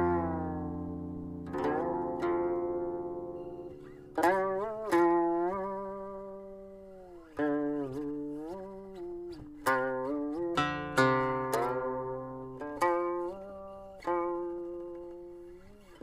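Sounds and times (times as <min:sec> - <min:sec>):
plucked zither notes: 0:00.0 - 0:16.0.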